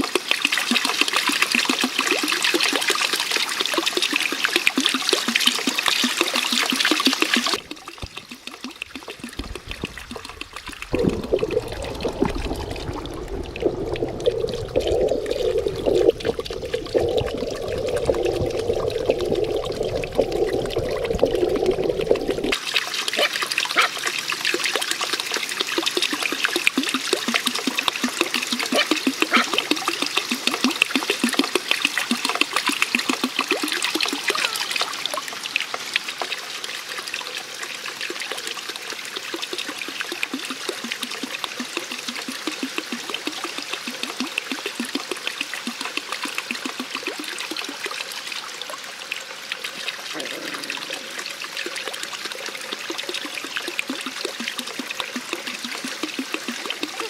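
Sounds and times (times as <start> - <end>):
water gushing: 0.0 - 57.0
water splashing trickle: 0.0 - 57.0.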